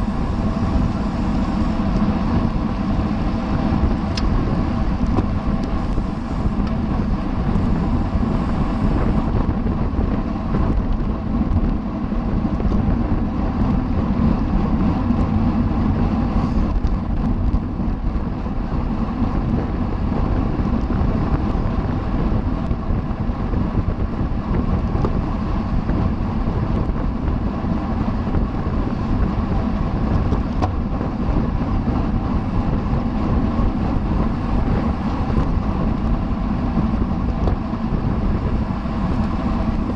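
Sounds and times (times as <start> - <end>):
bicycle road and drivetrain rumble: 0.0 - 39.9
wind rush on microphone: 0.0 - 39.9.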